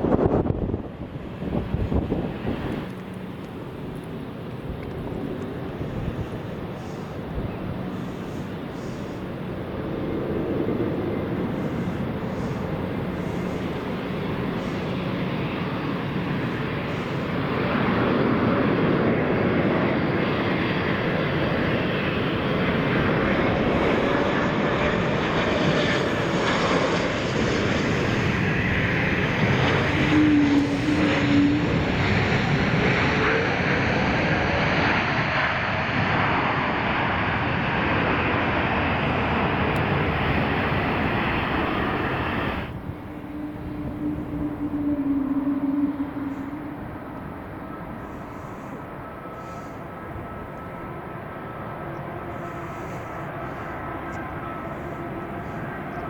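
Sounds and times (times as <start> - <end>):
jet engines roaring and whining: 0.0 - 56.0.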